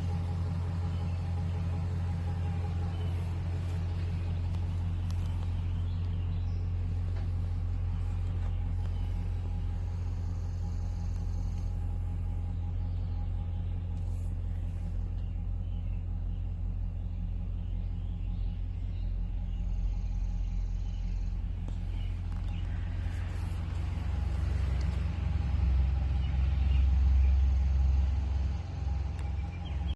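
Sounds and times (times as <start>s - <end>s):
pickup truck engine idling: 0.0s - 29.9s.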